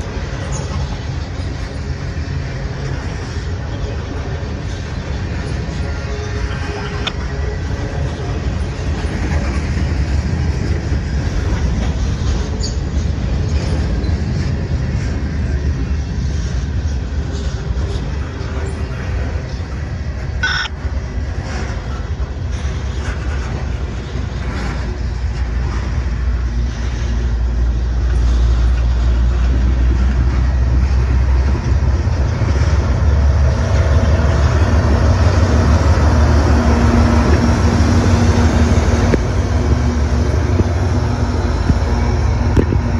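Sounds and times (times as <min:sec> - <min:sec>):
freight train wheels rumbling on rails: 0:00.0 - 0:42.9
locomotive engine hum: 0:00.0 - 0:42.9.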